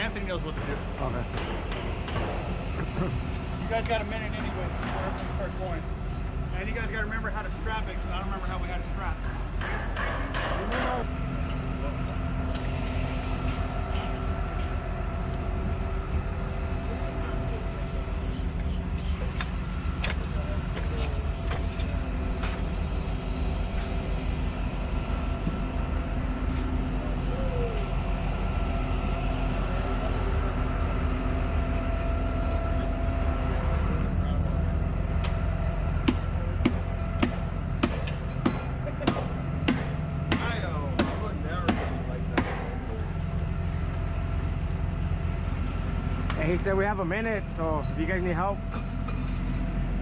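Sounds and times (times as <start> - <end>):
heavy machinery engine running: 0.0 - 50.0.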